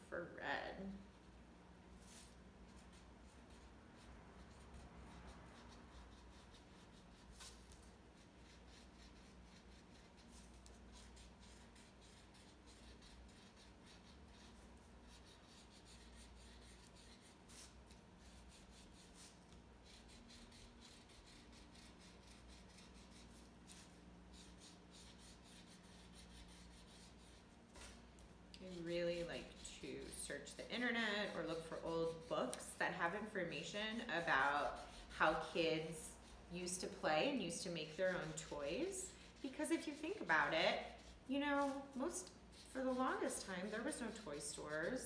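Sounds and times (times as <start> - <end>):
marker scratching on cardboard: 2.1 - 28.0, 28.7 - 45.0.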